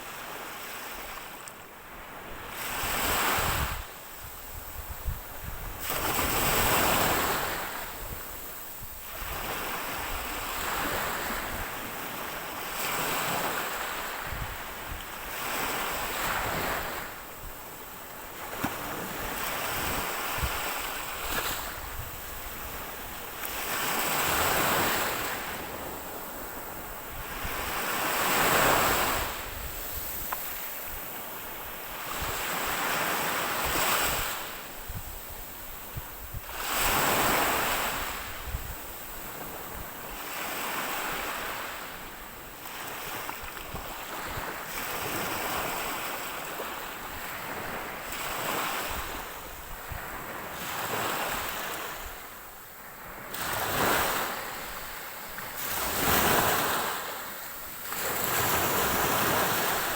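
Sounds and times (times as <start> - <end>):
ocean waves breaking on shore: 0.0 - 59.9
wind rumbling on microphone: 2.0 - 57.2.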